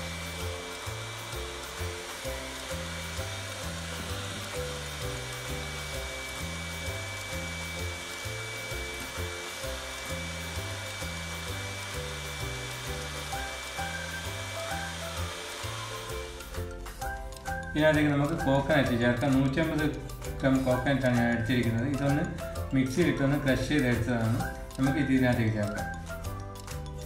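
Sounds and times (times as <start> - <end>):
background music with bass line: 0.0 - 27.0
electric hand mixer whirring: 0.0 - 27.0.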